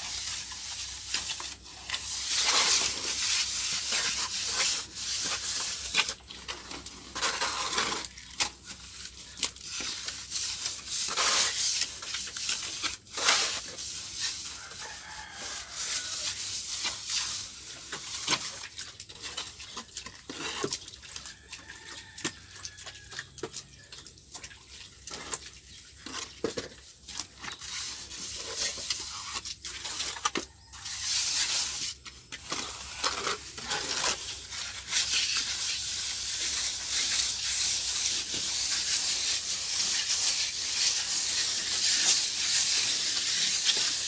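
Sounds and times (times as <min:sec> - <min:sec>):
float scraping on wet cement: 0:00.0 - 0:44.0.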